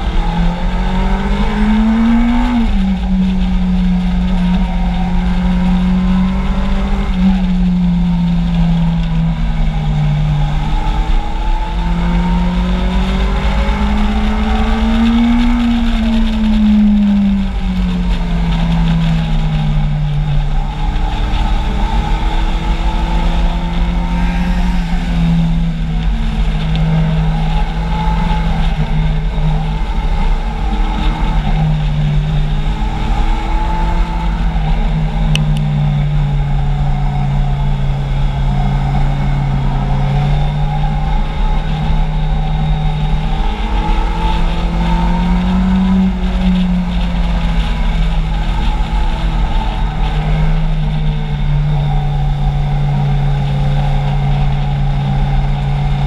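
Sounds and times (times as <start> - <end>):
motorcycle engine revving: 0.0 - 56.0
wind rumble: 0.0 - 56.0.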